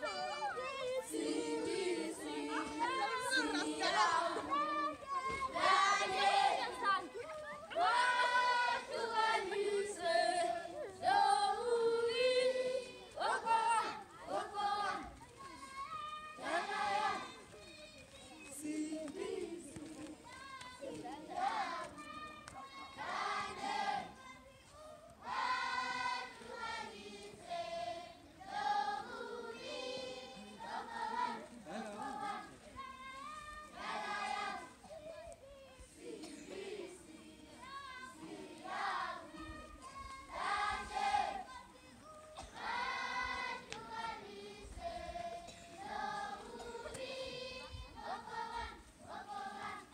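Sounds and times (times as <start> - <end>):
children singing unaccompanied: 0.0 - 35.0, 35.9 - 49.9.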